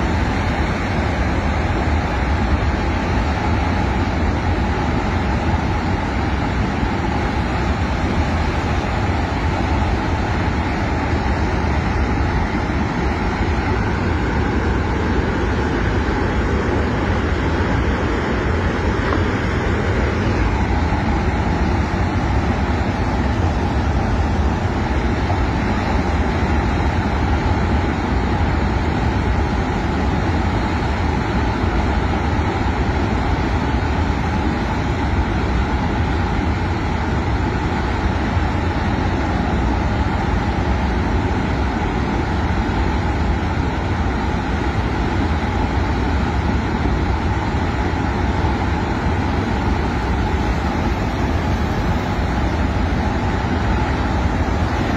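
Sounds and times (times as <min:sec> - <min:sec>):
flood water rushing with low rumble: 0:00.0 - 0:54.9.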